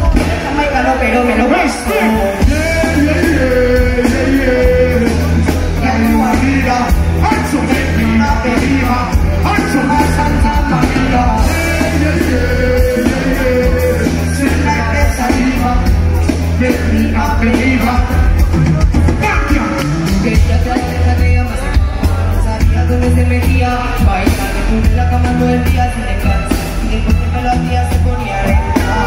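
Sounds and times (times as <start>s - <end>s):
dancehall music through pa: 0.0s - 29.0s
person singing: 0.0s - 29.0s.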